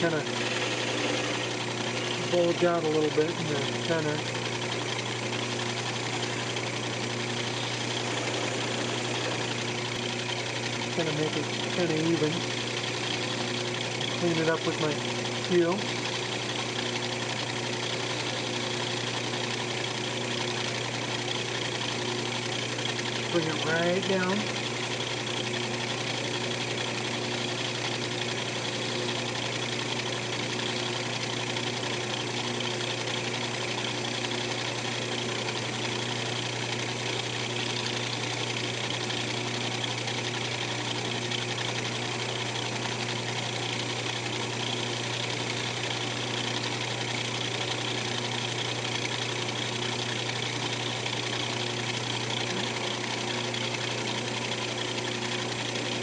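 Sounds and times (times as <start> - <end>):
wood lathe motor humming: 0.0 - 56.0.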